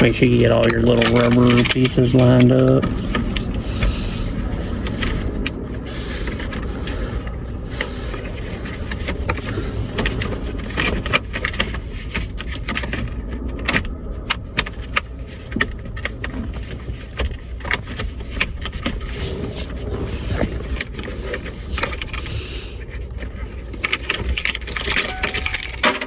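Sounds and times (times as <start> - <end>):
low rumble: 0.0 - 25.8.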